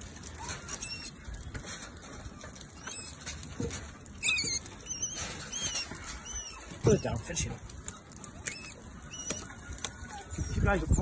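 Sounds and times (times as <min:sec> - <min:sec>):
rat squealing: 0:00.4 - 0:01.4, 0:02.2 - 0:11.0.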